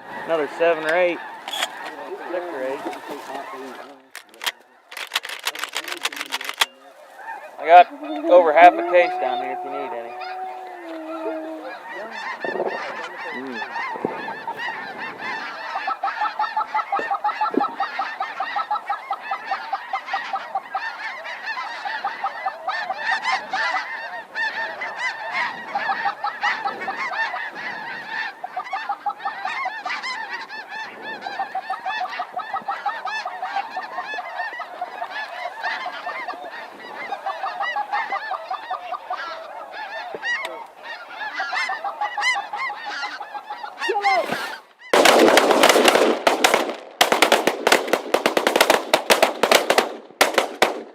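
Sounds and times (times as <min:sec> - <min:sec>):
snow geese honking: 0:00.0 - 0:50.7.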